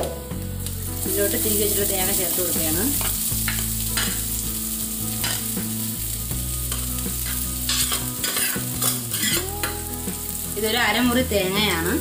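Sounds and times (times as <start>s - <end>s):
light sizzle: 0.0s - 12.0s.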